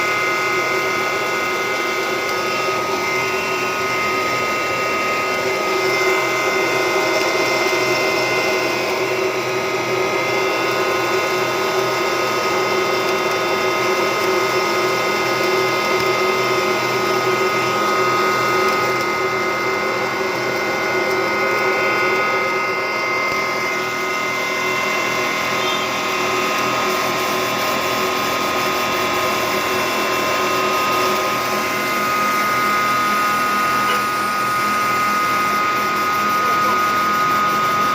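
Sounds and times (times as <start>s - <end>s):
disk mill whirring: 0.0s - 37.9s.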